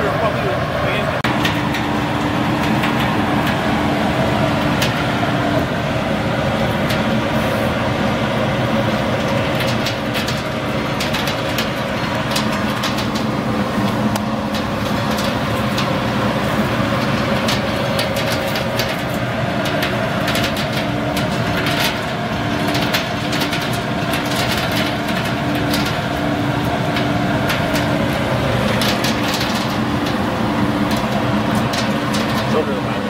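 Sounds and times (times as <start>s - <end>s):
roasting machine humming: 0.0s - 33.0s.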